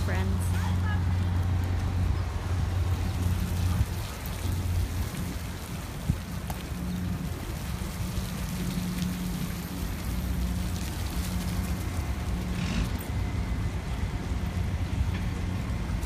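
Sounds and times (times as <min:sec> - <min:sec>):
water sprinkler spraying: 0:00.0 - 0:14.6
low hum: 0:00.0 - 0:16.0.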